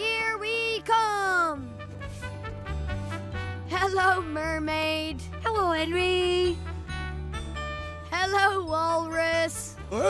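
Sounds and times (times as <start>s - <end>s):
background music with bass line: 1.2s - 10.0s.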